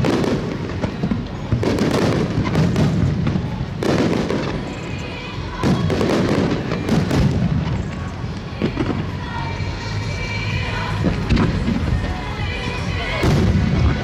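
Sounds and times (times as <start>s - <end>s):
fireworks booms and crackles: 0.0s - 14.0s.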